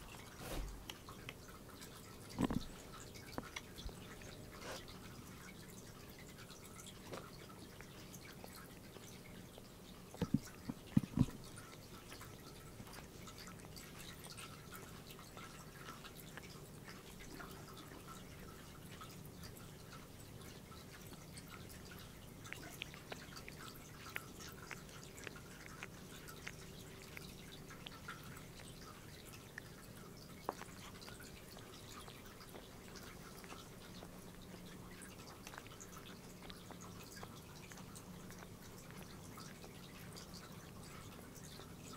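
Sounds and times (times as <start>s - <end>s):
cat licking fur: 0.0s - 41.9s.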